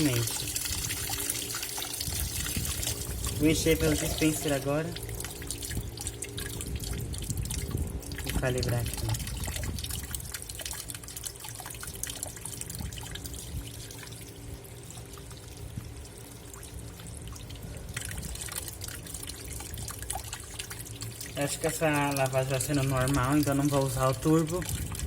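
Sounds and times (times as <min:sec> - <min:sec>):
water trickling into washing machine: 0:00.0 - 0:25.0.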